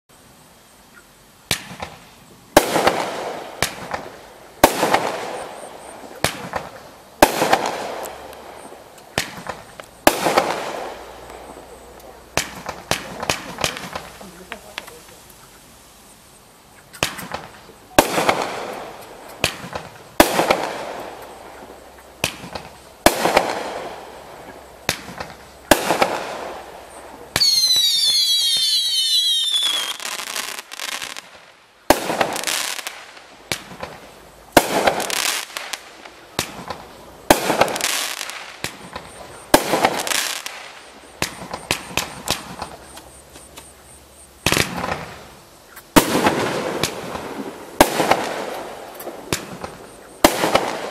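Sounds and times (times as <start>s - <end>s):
whistling firework shots: 1.5s - 14.9s, 16.9s - 43.8s, 44.4s - 45.3s, 45.9s - 50.9s
firework bangs with crackle: 1.5s - 15.0s, 16.9s - 43.8s, 44.4s - 50.9s.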